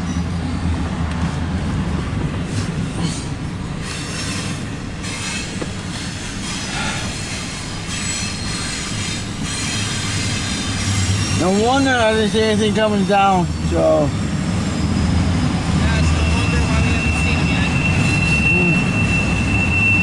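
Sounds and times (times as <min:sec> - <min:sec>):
high wheel squeal: 0:00.0 - 0:00.9, 0:02.5 - 0:20.0
freight train wheels on rail: 0:00.0 - 0:20.0.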